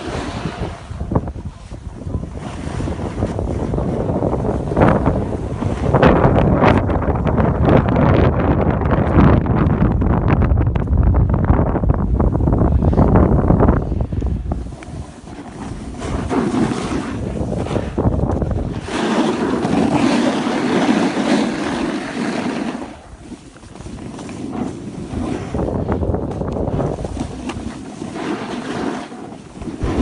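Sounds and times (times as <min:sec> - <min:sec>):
snowboard scraping over snow: 0:00.0 - 0:09.6, 0:11.8 - 0:30.0
wind buffeting microphone: 0:00.0 - 0:30.0.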